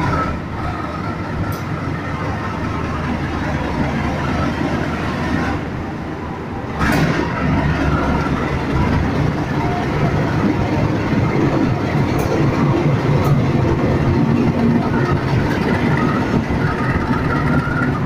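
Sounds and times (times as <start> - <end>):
wheels clicking over rail joints: 0.0 - 5.4, 6.8 - 18.0
locomotive engine rumbling: 0.0 - 18.0.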